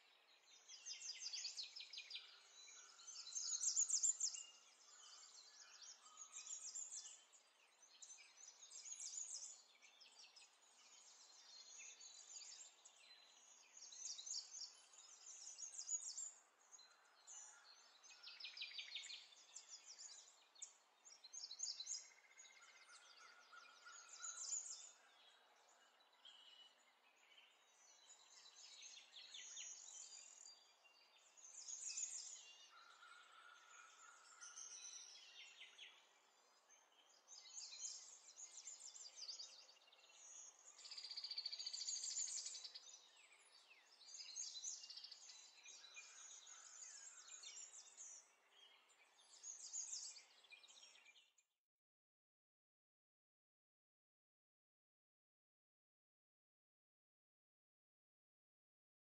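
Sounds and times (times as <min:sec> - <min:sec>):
small birds chirping and trilling: 0:00.0 - 0:51.5.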